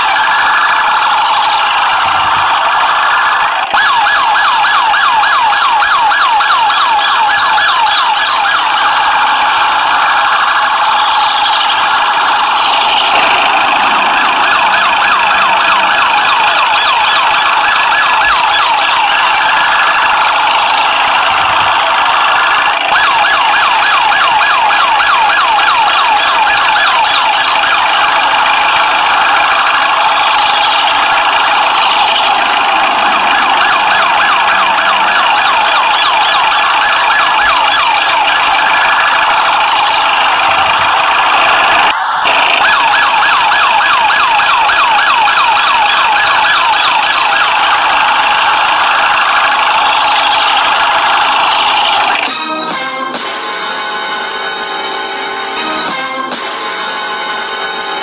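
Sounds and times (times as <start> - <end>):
toy police siren warbling: 0.0 - 52.9.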